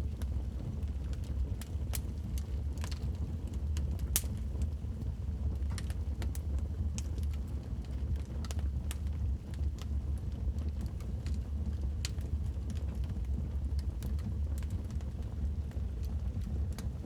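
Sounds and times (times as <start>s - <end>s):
low rumble of burning fire: 0.0s - 17.0s
wood fire crackling: 0.0s - 17.0s.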